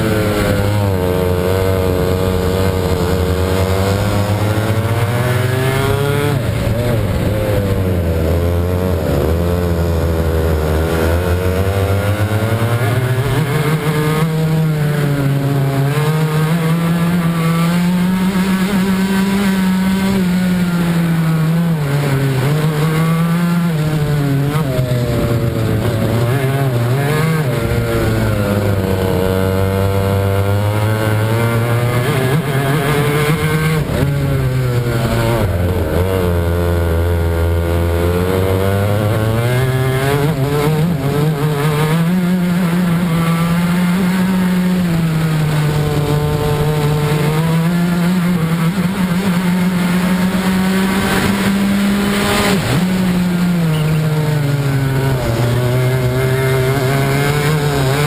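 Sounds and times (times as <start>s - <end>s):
kart two-stroke engine racing: 0.0s - 58.0s.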